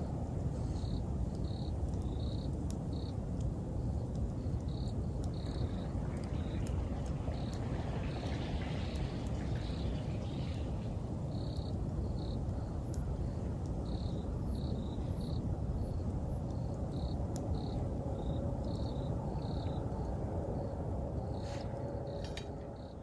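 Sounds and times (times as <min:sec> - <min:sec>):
campfire burning and crackling: 0:00.0 - 0:23.0
crickets chirping: 0:00.0 - 0:23.0.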